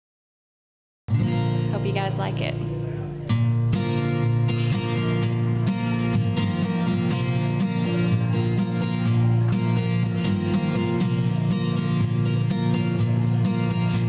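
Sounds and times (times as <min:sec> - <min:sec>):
acoustic guitar strumming: 0:01.1 - 0:14.0.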